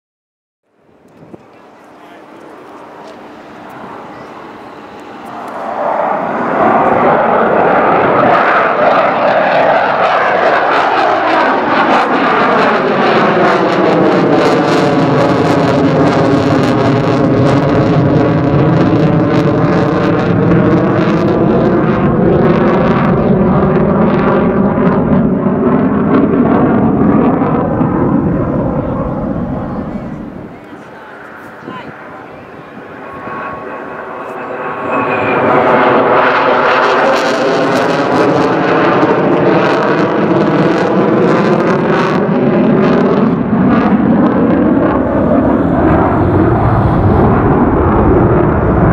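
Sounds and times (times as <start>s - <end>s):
jet engines roaring overhead: 0.7s - 48.9s.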